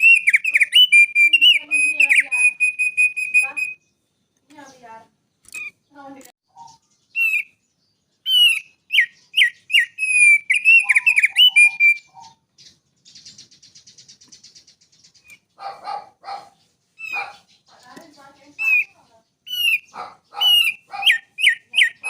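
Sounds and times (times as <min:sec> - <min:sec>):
bird singing whistled notes and trill: 0:00.0 - 0:22.0.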